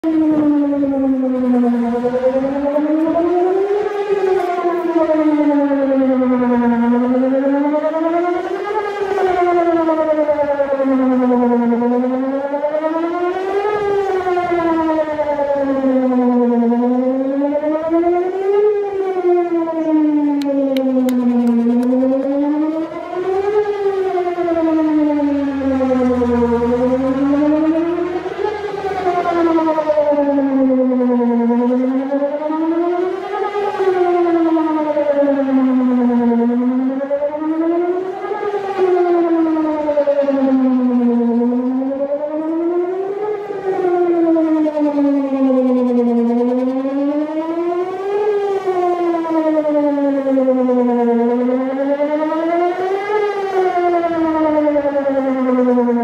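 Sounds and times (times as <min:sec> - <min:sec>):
warning siren wailing: 0:00.0 - 0:56.0.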